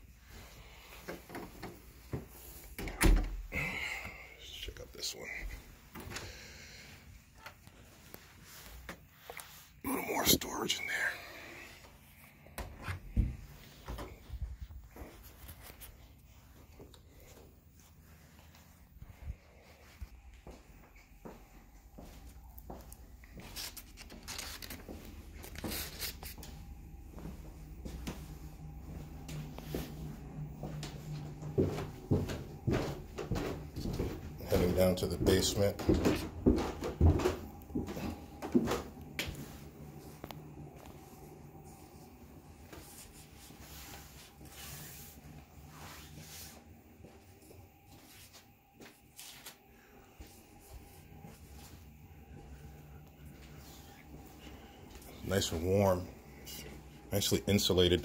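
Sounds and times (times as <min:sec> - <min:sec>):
footsteps: 0:00.1 - 0:03.0, 0:11.6 - 0:58.0.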